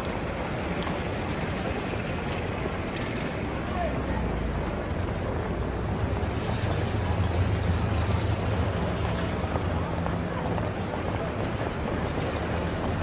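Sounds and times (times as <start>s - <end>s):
low rumble of engines: 0.0s - 13.0s
traffic hiss: 0.0s - 13.0s.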